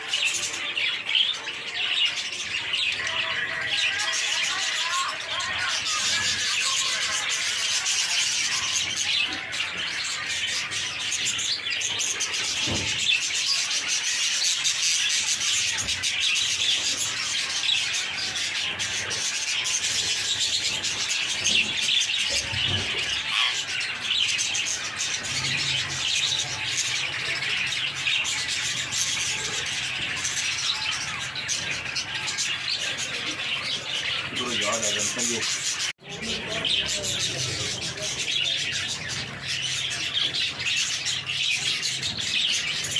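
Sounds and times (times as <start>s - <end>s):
caged birds chirping: 0.0s - 42.9s.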